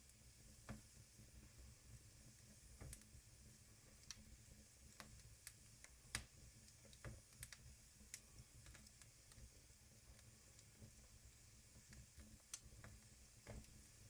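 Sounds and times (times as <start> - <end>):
wood fire crackling: 2.3 - 14.0.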